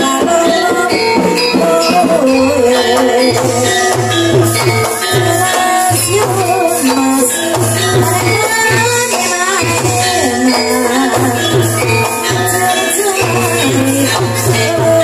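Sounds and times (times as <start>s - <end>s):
live gamelan music: 0.0s - 15.0s.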